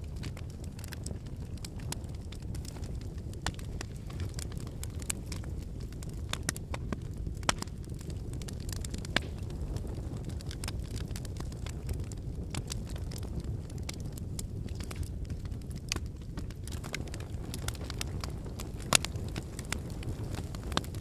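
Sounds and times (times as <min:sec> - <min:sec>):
firewood crackling and popping: 0:00.0 - 0:21.0
rumble of flames: 0:00.0 - 0:21.0.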